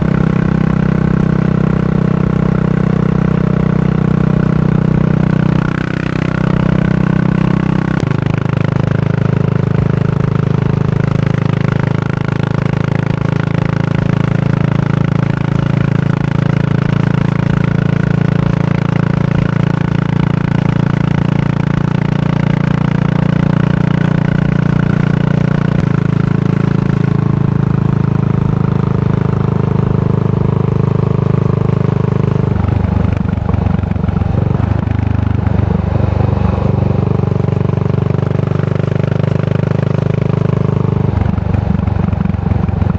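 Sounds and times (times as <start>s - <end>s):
single-cylinder motorcycle engine running: 0.0s - 42.9s.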